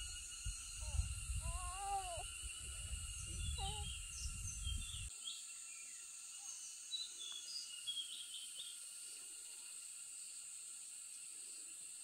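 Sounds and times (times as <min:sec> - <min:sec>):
small birds chirping: 0:00.0 - 0:09.8
high-pitched insect drone: 0:00.0 - 0:12.0.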